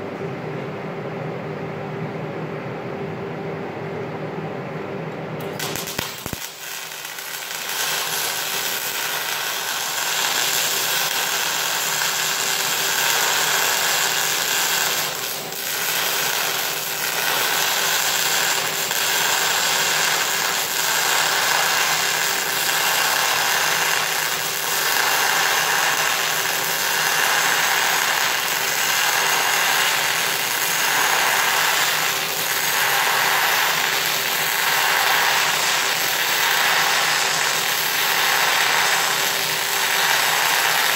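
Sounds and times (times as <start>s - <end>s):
welding arc crackling hiss: 5.4s - 40.9s.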